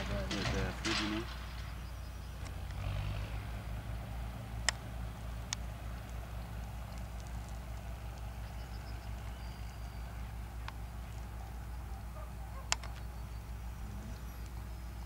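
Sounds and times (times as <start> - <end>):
vehicle engine idling: 0.0 - 15.0
sharp clicks: 0.3 - 2.9, 4.6 - 15.0.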